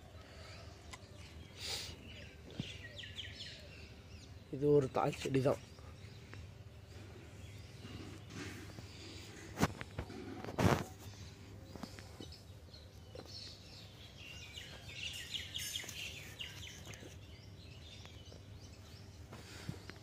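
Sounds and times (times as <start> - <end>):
small bird chirping: 0.2 - 20.0.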